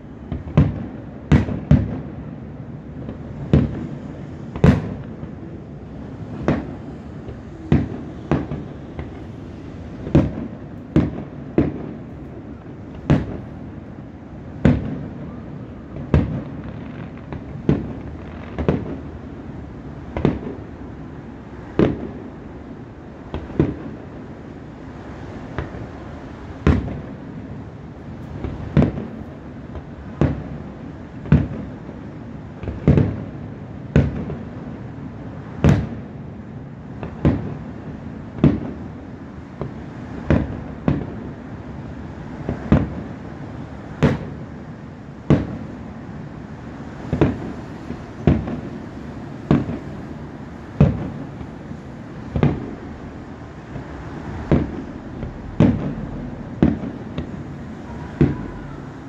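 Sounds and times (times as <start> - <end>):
fireworks bursting: 0.0 - 36.2, 36.9 - 59.0
steady background noise: 0.0 - 59.0.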